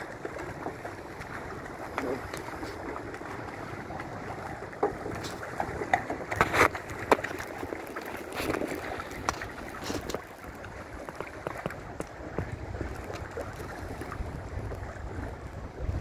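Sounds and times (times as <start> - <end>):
water lapping against wooden pier: 0.0 - 16.0.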